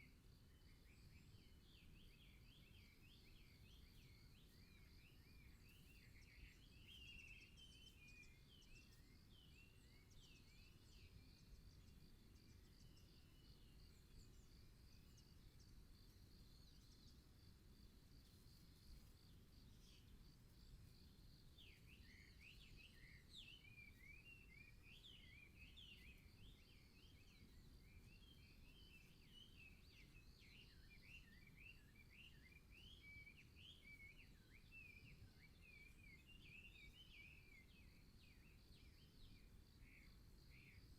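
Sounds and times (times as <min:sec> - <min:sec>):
low background hiss: 0:00.0 - 0:40.9
small birds chirping: 0:00.0 - 0:40.9.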